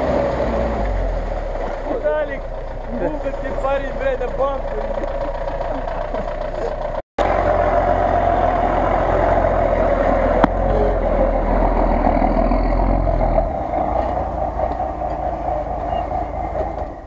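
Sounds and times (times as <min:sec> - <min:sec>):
off-road vehicle engine rumbling: 0:00.0 - 0:17.0.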